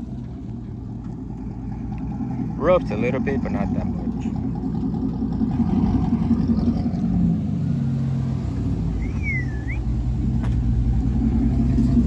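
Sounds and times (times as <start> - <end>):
truck engine deep rumble: 0.0 - 12.0.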